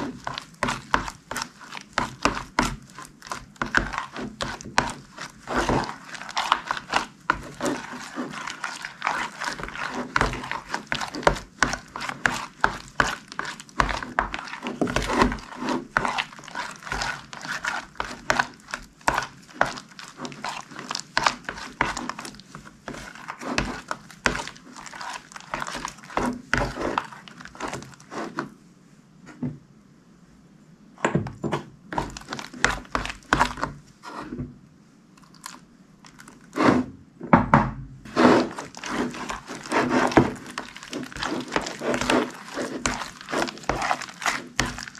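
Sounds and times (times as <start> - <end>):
slime squished by hand: 0.0 - 28.4, 35.2 - 36.6, 38.1 - 44.9.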